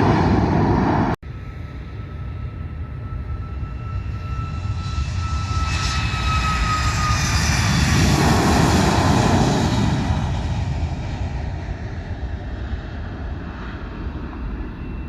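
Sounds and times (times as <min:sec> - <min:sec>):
aircraft engine whine: 0:00.0 - 0:15.0
aircraft rumble: 0:00.0 - 0:15.0.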